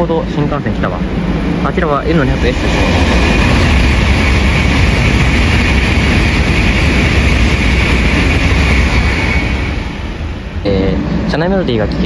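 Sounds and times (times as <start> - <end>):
high-speed train passing: 0.0 - 12.0.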